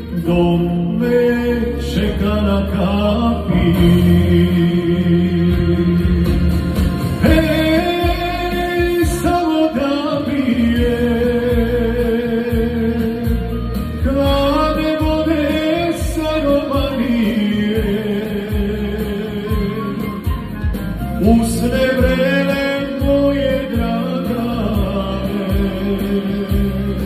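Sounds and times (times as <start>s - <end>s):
man singing into microphone: 0.0s - 20.5s, 21.1s - 27.0s
backing track with low bass: 0.0s - 27.0s.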